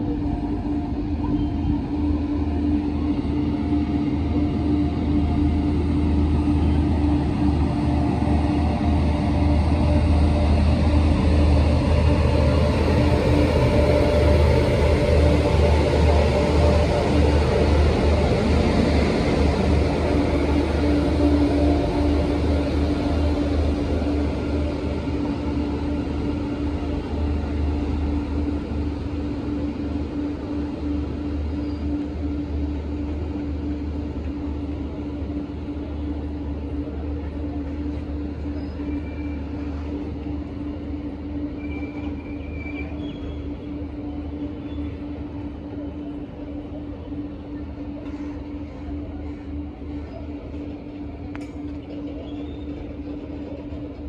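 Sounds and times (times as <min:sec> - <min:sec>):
freight train wagons rumbling: 0:00.0 - 0:54.0
locomotive hum: 0:00.0 - 0:54.0.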